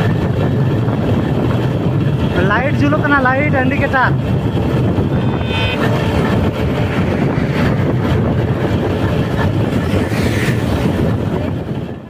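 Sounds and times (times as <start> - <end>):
motorcycle engine: 0.0 - 12.0
road noise: 0.0 - 12.0
wind buffeting microphone: 0.0 - 12.0.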